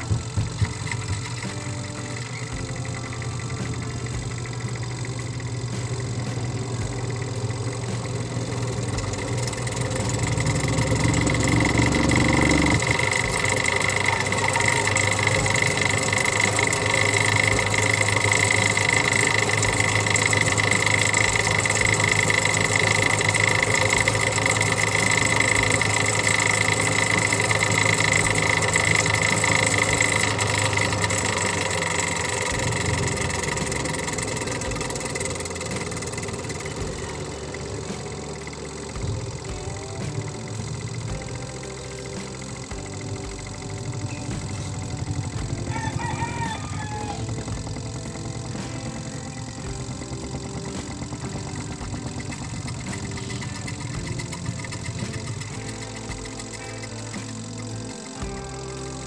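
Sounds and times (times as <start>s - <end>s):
high steady whine: 0.0s - 59.0s
spin-dryer motor humming: 0.0s - 59.0s.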